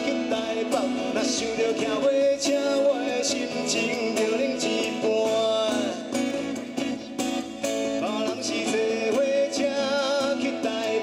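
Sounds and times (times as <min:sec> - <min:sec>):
man singing: 0:00.0 - 0:11.0
strummed acoustic guitars: 0:00.0 - 0:11.0.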